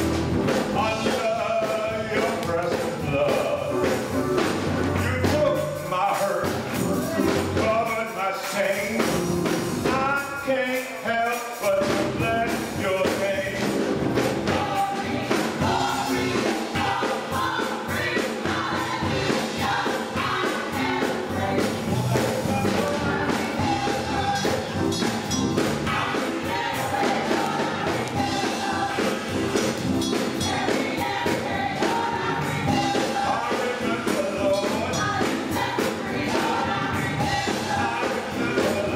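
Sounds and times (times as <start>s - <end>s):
band accompaniment with steady beat: 0.0s - 38.9s
gospel choir singing: 0.0s - 38.9s.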